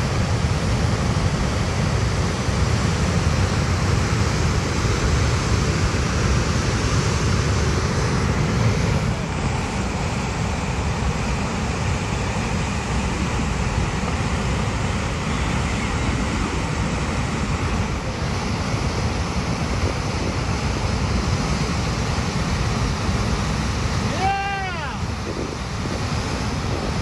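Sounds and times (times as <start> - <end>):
whitewater rushing down rock: 0.0 - 27.0.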